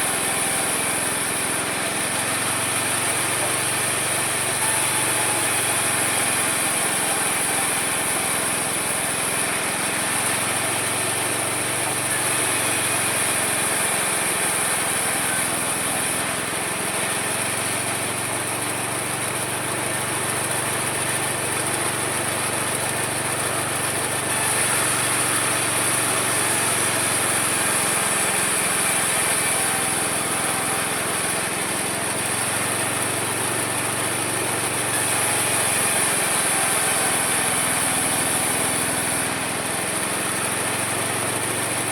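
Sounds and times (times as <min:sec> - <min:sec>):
high saw whine: 0:00.0 - 0:41.9
sawmill sawing wood: 0:00.0 - 0:41.9.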